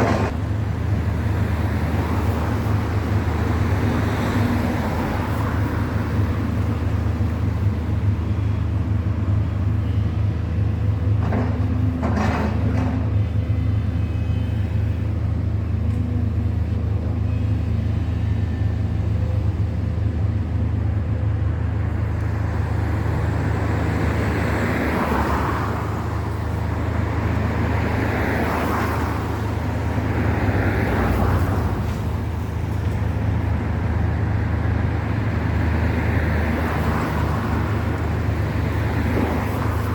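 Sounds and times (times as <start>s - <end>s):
vehicles passing: 0.0s - 39.9s.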